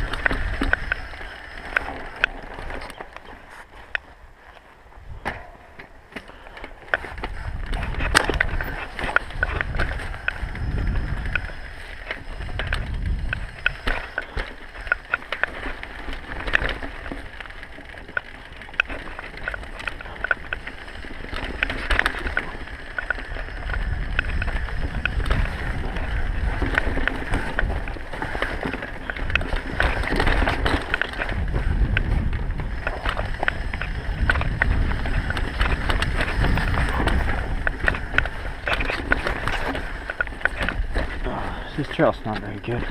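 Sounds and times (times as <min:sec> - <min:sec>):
wind buffeting microphone: 0:00.0 - 0:06.1, 0:06.7 - 0:42.9
bike rattling over bumps: 0:00.0 - 0:42.9
tyre noise on dirt: 0:00.0 - 0:42.9.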